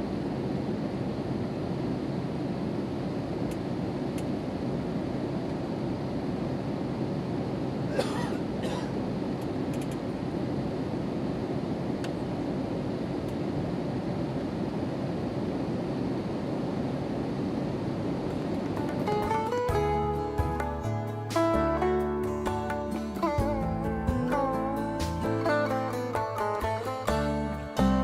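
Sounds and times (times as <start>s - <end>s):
aircraft cabin engine rumble: 0.0s - 26.7s.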